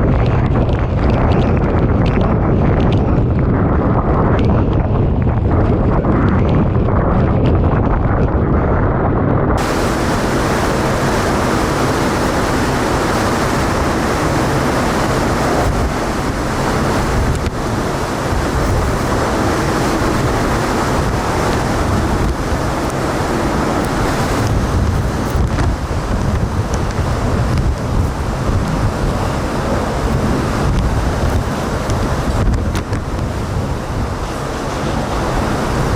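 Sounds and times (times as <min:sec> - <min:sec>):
torrential wind-driven rain: 0:00.0 - 0:35.9
wind howling: 0:00.0 - 0:35.9
wind rumble on microphone: 0:00.0 - 0:35.9.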